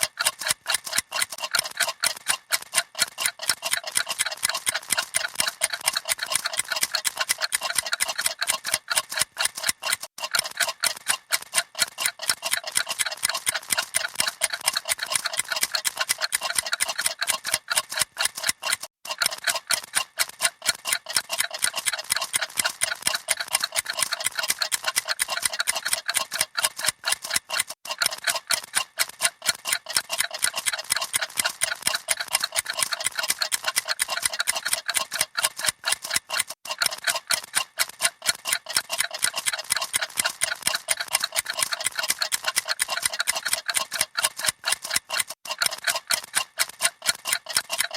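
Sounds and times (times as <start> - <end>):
clocks ticking rapidly: 0.0 - 47.9.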